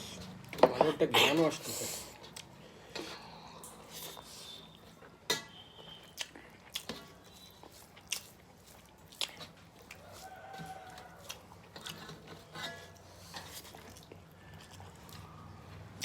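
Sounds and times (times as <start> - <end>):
person chewing: 2.0 - 5.2, 5.9 - 16.0.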